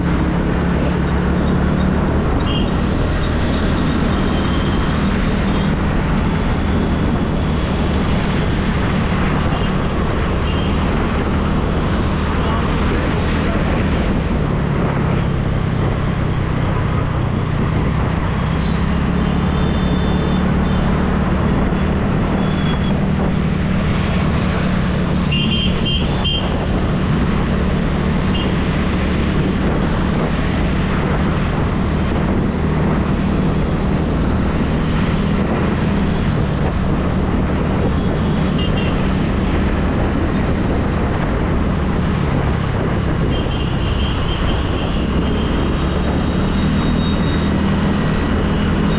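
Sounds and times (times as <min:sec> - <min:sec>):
city traffic: 0:00.0 - 0:48.9
wind and road rush: 0:00.0 - 0:48.9.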